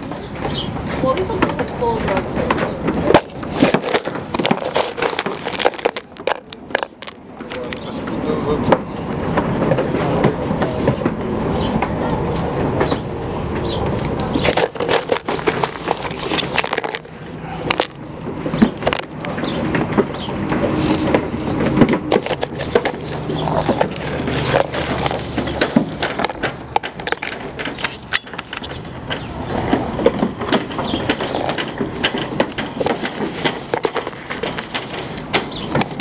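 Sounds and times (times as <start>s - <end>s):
goats feeding crunching: 0.0s - 36.0s.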